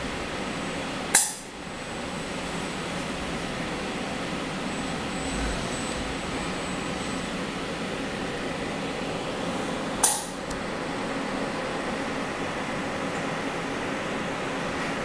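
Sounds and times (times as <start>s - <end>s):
fan and ventilation noise: 0.0s - 15.0s.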